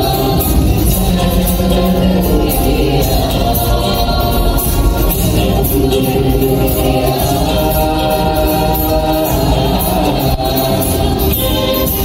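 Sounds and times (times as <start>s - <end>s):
choir singing: 0.0s - 12.0s
live band playing: 0.0s - 12.0s.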